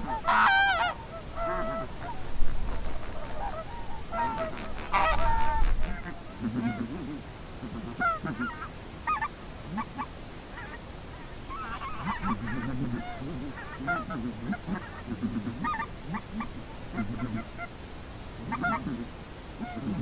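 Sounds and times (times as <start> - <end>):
geese honking: 0.0 - 2.3, 3.0 - 10.8, 11.5 - 17.7, 18.4 - 20.0.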